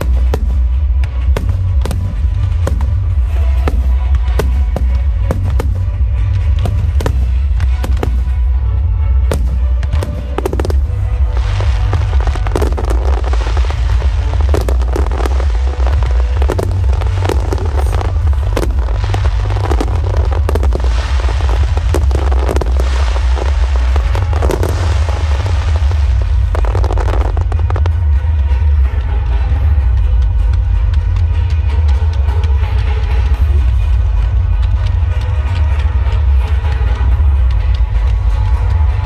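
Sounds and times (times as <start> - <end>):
fireworks bangs and crackling: 0.0 - 39.0
music playing: 0.0 - 39.0.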